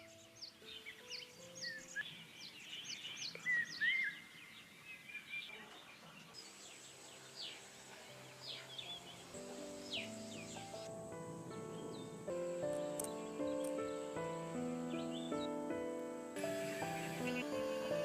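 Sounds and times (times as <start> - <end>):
soft background music: 0.0 - 4.2, 5.3 - 18.0
small birds chirping: 0.0 - 18.0.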